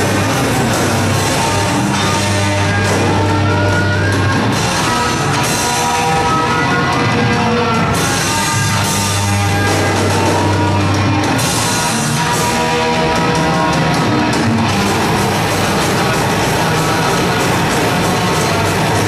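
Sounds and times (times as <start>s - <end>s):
heavy metal band playing live: 0.0s - 19.0s.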